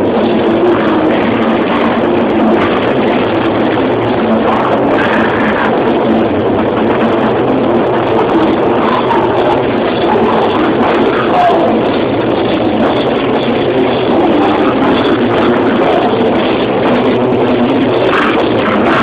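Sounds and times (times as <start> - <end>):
drums: 0.0 - 19.0
heavily distorted guitars: 0.0 - 19.0.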